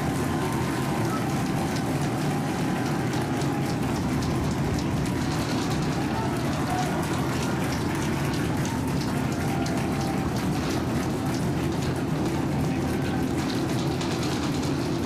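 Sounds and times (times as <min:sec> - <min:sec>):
rocket engines roaring: 0:00.0 - 0:15.0.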